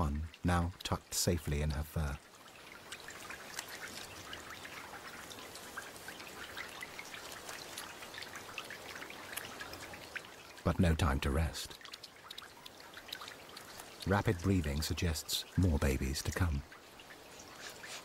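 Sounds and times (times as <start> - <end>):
rain drips: 0.0 - 18.0
steady rain falling: 0.0 - 18.0.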